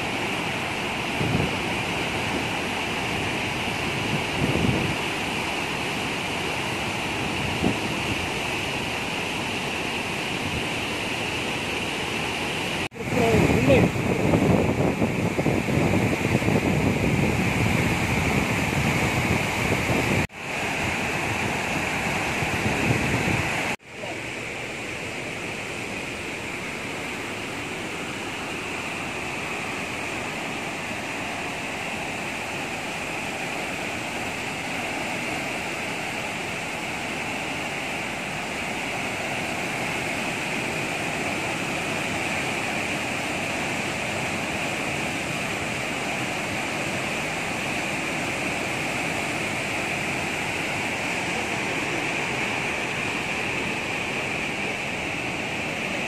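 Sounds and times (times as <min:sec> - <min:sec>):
river water rushing through rapids: 0:00.0 - 0:56.0.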